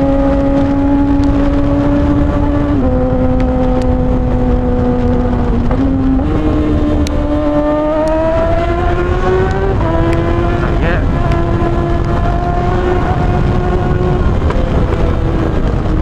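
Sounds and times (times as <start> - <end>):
low wind rumble: 0.0 - 16.0
motorcycle engine revving loud: 0.0 - 16.0.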